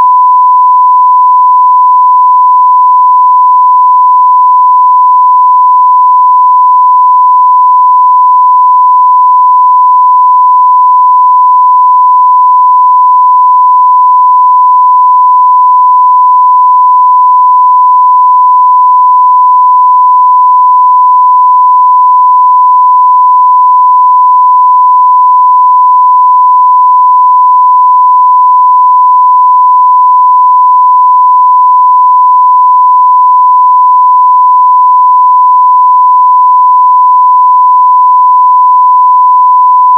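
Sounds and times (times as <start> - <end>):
continuous sine-wave test tone: 0.0 - 39.9.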